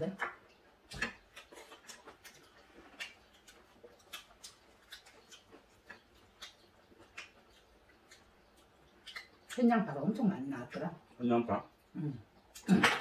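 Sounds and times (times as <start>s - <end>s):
mouth sounds eating: 0.1s - 13.0s.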